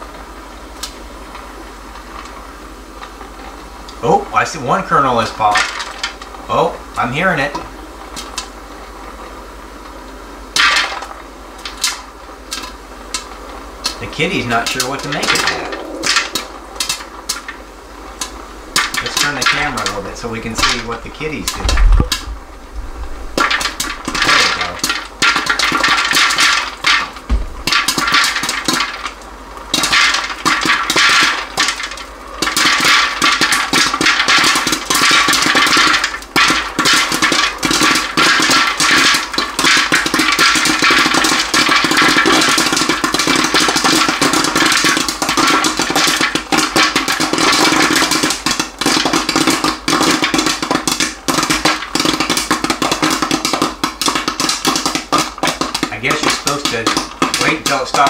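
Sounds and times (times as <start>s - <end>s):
popcorn popping: 0.0s - 58.0s.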